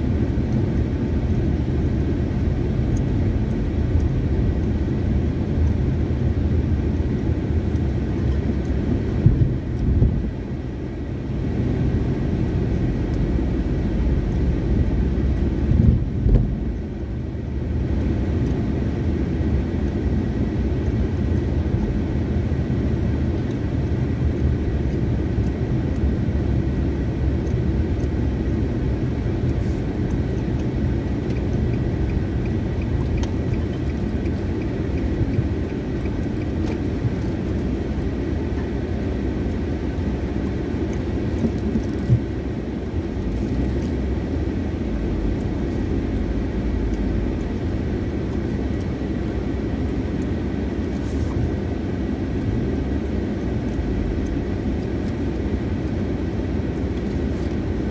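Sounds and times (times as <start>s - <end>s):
car cabin engine and tyre rumble: 0.0s - 57.9s.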